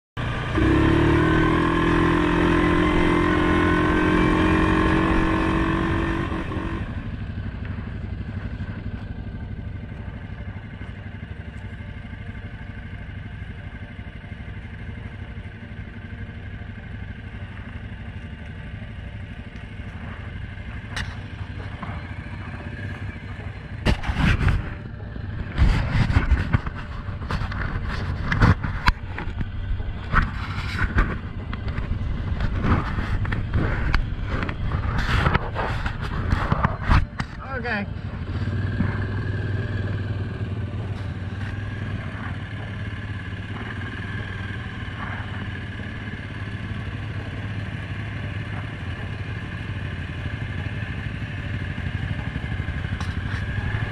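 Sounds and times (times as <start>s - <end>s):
atv engine idling: 0.2s - 53.9s.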